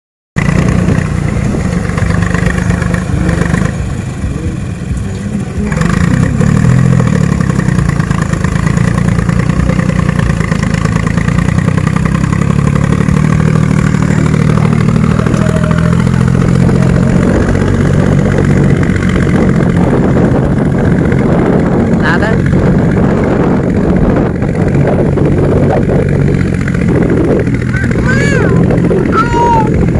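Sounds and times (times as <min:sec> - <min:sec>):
excavator engine running: 0:00.4 - 0:29.9.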